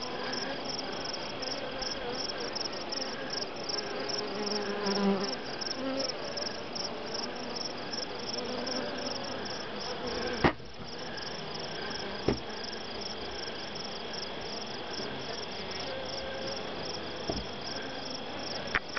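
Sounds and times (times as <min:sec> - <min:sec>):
high pulsing insect chirp: 0:00.0 - 0:18.9
honey bees humming: 0:00.0 - 0:18.9.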